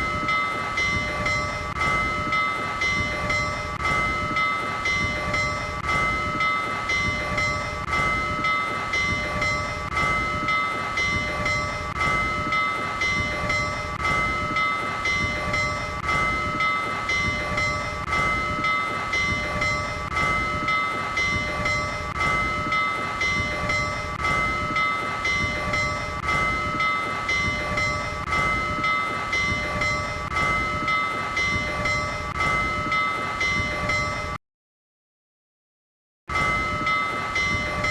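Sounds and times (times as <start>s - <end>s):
steam locomotive bell ringing: 0.0s - 34.4s, 36.3s - 37.9s.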